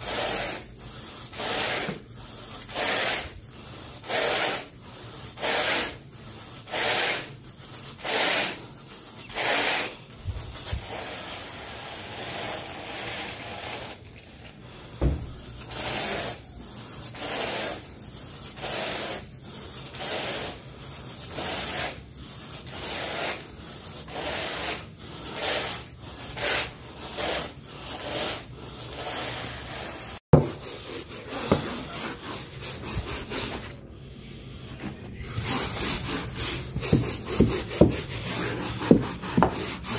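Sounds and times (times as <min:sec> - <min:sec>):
brush scrubbing carpet: 0:00.0 - 0:14.3, 0:15.0 - 0:33.9, 0:34.7 - 0:39.9.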